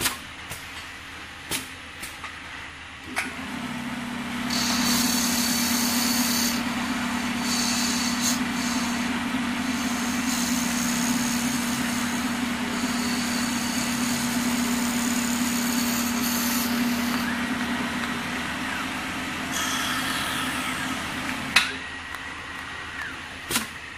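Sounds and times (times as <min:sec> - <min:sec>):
lathe motor hum: 0:03.3 - 0:23.9.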